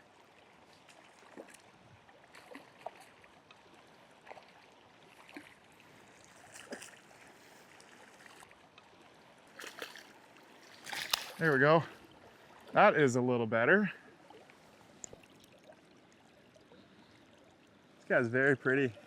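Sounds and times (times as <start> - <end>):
fast river water running: 0.0 - 19.0.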